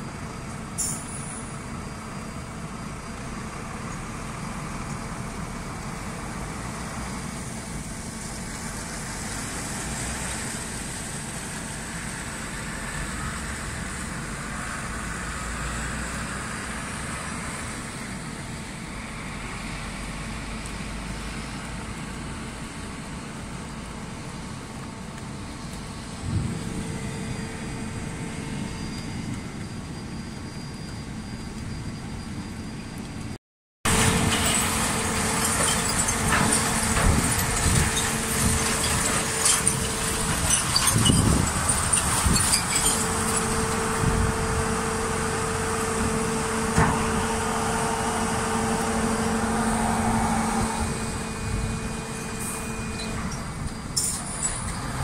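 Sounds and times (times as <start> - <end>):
truck driving on wet road: 0.0 - 55.0.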